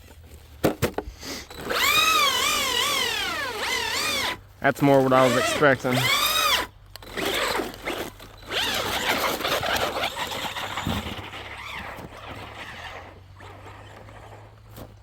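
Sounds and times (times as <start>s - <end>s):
tyres churning through snow: 0.0s - 15.0s
electric motor whining: 1.2s - 15.0s.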